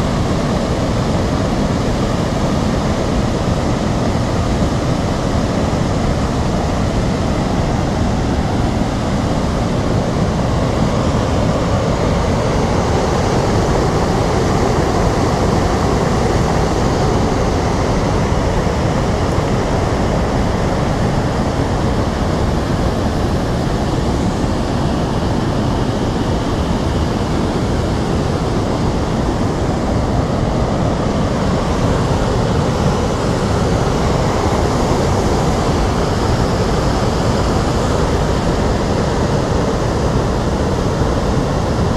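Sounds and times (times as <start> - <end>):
water rushing over weir: 0.0 - 41.9.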